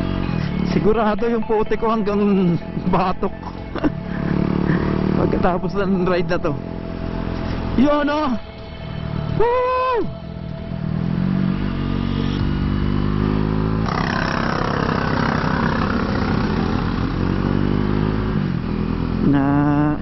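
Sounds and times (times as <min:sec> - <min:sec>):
motorcycle engine revving: 0:00.0 - 0:01.3, 0:02.0 - 0:09.4, 0:10.4 - 0:20.0.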